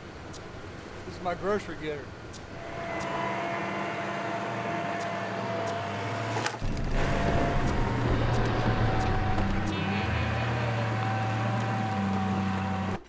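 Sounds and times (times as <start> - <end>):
steady whine: 0.0 - 13.0
truck engine running: 0.0 - 13.0.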